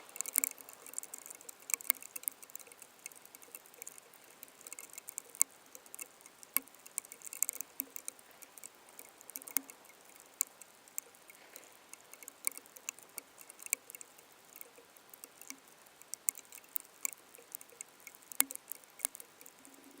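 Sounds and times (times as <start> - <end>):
faint hiss: 0.0 - 20.0
raindrops ticking on hard surface: 0.0 - 20.0.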